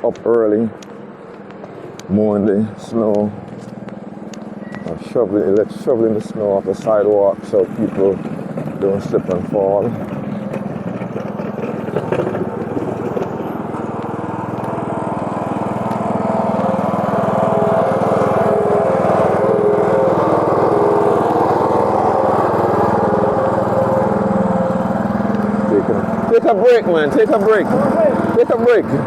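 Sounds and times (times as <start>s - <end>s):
snowblower engine running: 0.1s - 29.0s.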